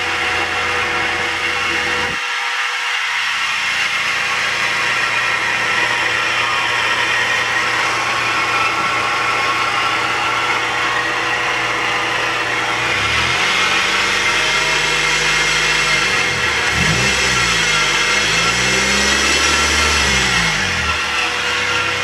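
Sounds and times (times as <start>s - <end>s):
car engine running loudly: 0.0s - 22.0s.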